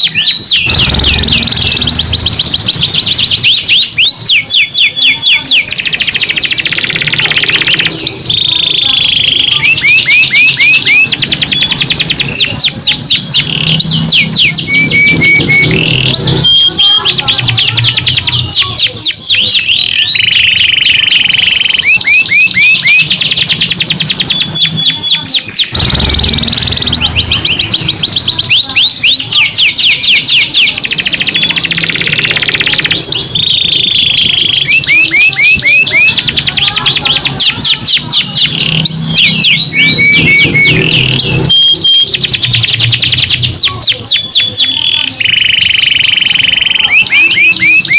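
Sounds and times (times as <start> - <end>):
canaries singing trills: 0.0 - 47.9.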